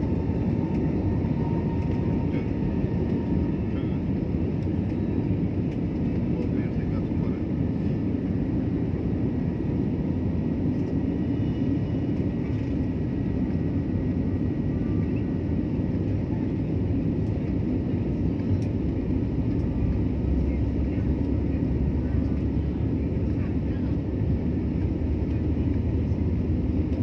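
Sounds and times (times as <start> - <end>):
jet engine roar in cabin: 0.0 - 27.0.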